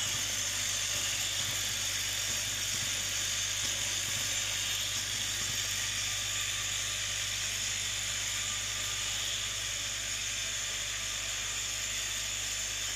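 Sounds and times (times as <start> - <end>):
machine whirring: 0.0 - 12.9.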